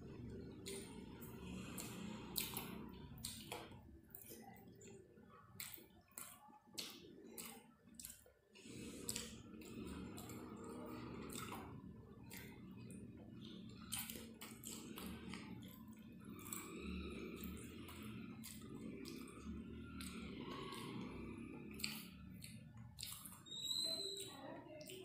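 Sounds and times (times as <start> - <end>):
chewing: 0.0 - 25.0
wet squishing of fingers: 0.1 - 25.0.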